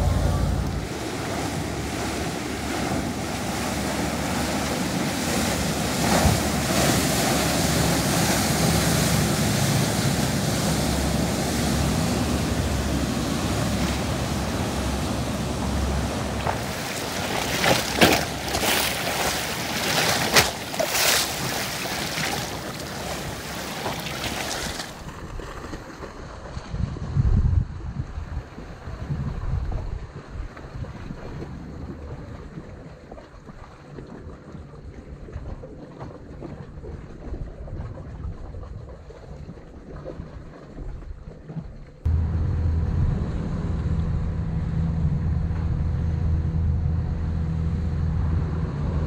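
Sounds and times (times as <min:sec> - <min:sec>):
rushing choppy water: 0:00.0 - 0:42.4
wind buffeting microphone: 0:00.0 - 0:49.0.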